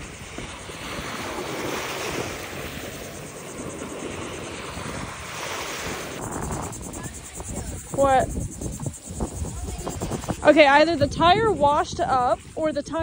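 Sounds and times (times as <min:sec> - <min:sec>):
ocean surf washing on beach: 0:00.0 - 0:12.9
wind buffeting microphone: 0:00.0 - 0:13.0.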